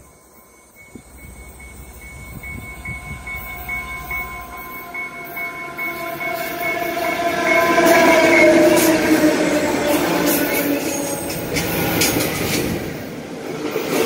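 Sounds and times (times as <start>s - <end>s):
locomotive bell dinging: 0.0s - 12.8s
diesel locomotive engine hum: 0.0s - 14.0s
rail noise: 0.0s - 14.0s.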